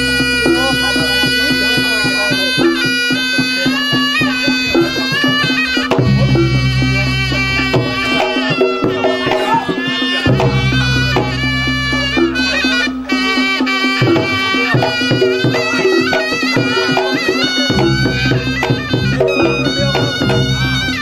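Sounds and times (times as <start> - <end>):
rapid hand drumming: 0.0 - 21.0
shawm playing nasal melody: 0.0 - 21.0.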